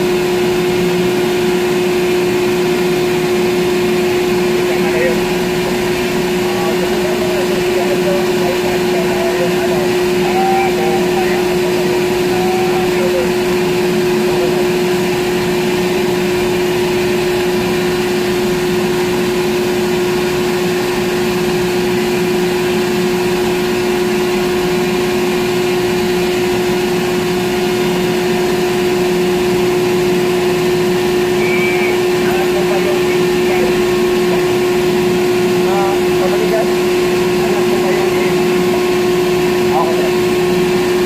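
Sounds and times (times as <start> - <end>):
crane machinery humming: 0.0 - 41.0.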